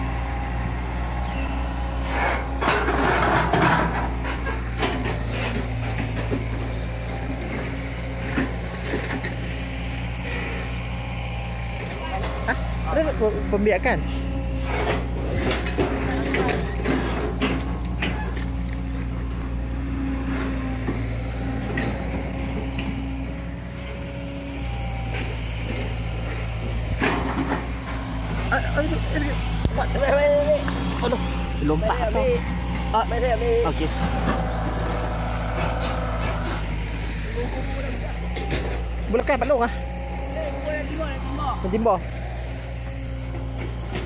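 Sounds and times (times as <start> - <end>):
excavator diesel engine humming: 0.0 - 44.0.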